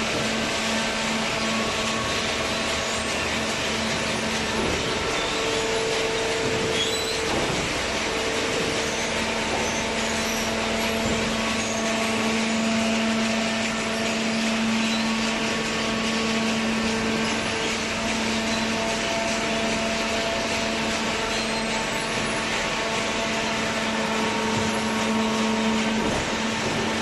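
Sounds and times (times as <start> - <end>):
hydraulic power unit hum: 0.0 - 27.0.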